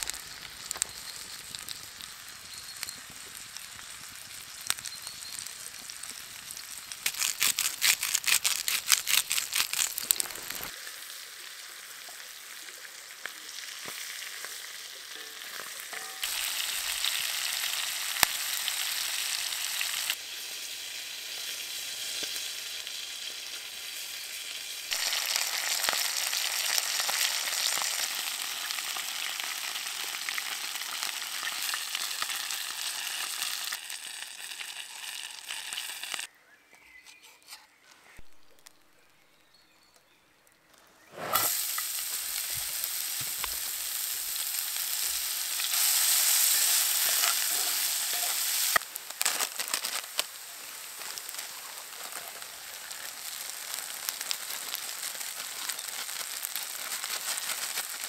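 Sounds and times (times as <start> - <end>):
chicken sizzling in oil: 0.0 - 36.3, 41.2 - 58.0.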